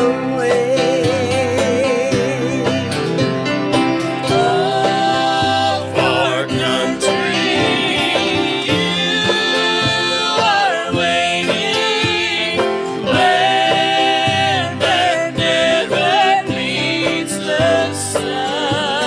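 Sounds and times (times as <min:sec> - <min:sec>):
gospel singing with vibrato: 0:00.0 - 0:19.0
instrumental accompaniment: 0:00.0 - 0:19.0.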